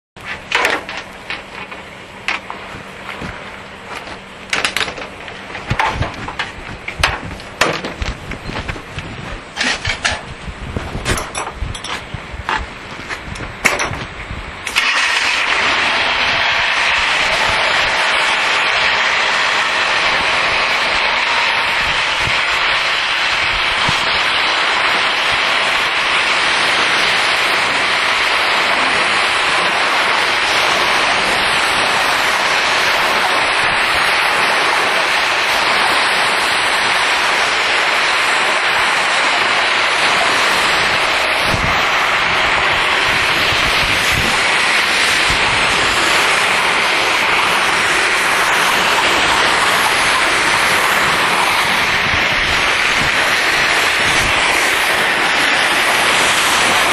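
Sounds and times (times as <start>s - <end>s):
pressure washer spraying water: 0.2s - 56.9s.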